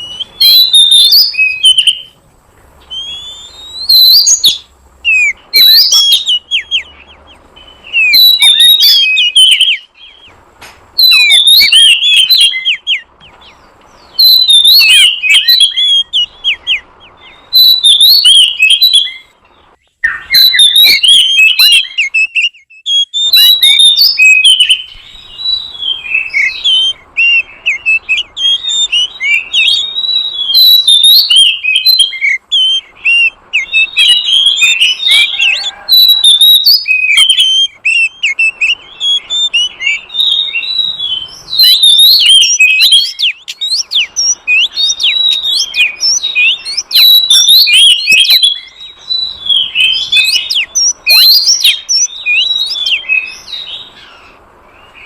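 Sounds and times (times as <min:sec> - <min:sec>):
bird singing whistled phrases: 0:00.0 - 0:02.2, 0:02.8 - 0:10.4, 0:11.0 - 0:55.0.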